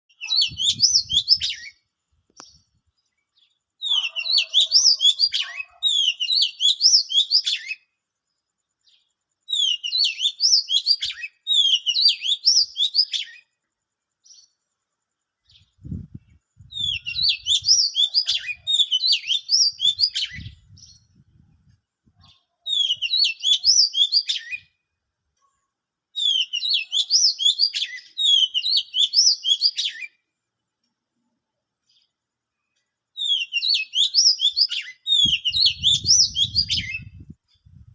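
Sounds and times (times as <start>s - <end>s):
songbird singing: 0.1s - 37.9s.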